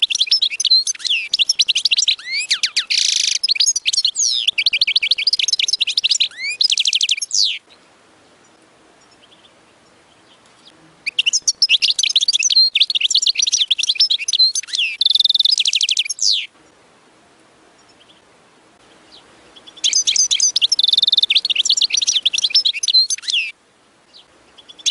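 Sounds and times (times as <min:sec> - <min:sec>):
bird twittering song with trills: 0:00.0 - 0:16.5, 0:18.8 - 0:23.5, 0:24.1 - 0:24.9.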